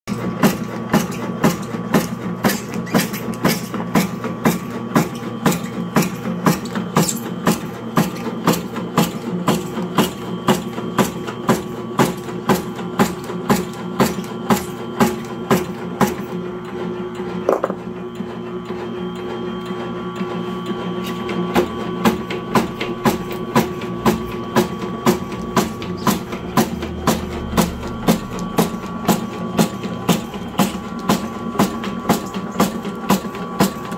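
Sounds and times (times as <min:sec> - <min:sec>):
slicing machine motor humming: 0:00.1 - 0:33.9.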